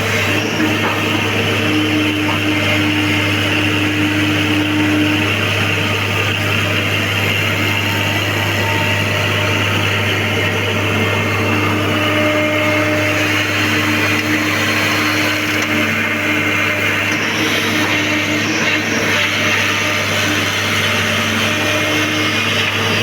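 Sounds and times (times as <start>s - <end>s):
excavator diesel engine: 0.0s - 23.0s.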